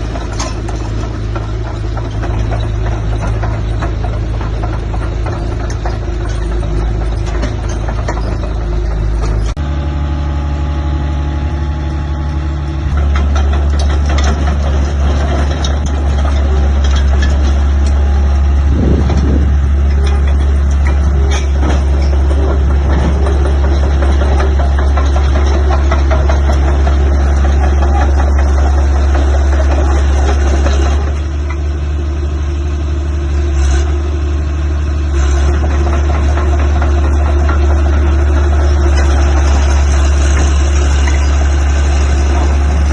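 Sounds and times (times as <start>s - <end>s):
bulldozer diesel engine revving: 0.0s - 42.9s.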